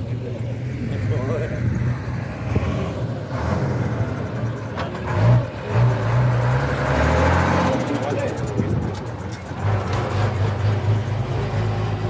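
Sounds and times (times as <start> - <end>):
fire truck diesel engine: 0.0 - 12.0.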